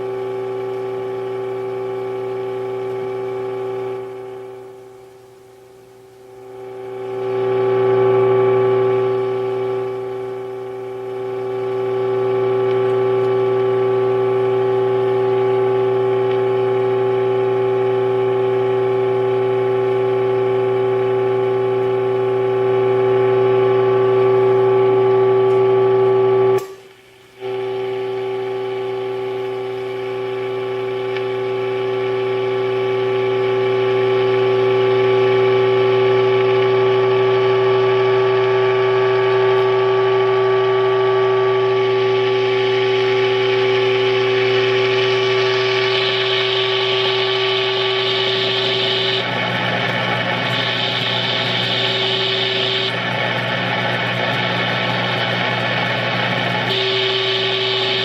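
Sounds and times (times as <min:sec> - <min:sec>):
low hum: 0:00.0 - 0:58.0
steady test tone: 0:00.0 - 0:58.0.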